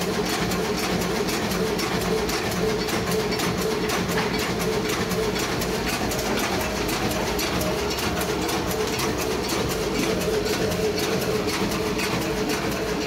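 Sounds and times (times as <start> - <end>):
machine clattering ticks: 0.0 - 13.0
machine hum: 0.0 - 13.0.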